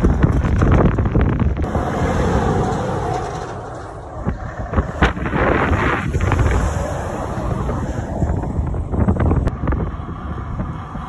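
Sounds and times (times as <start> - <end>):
wind buffeting microphone: 0.0 - 11.0
lorry rumbling past: 1.6 - 11.0.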